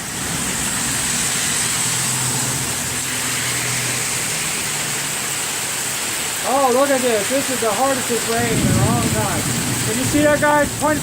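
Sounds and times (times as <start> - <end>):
car passing on wet street: 0.0 - 11.0
heavy rain pouring: 0.0 - 11.0.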